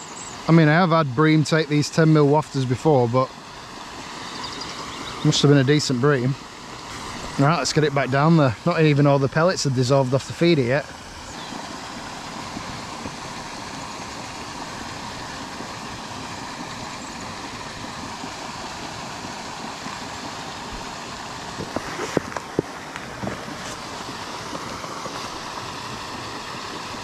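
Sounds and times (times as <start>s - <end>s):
fountain churning water: 0.0s - 27.0s.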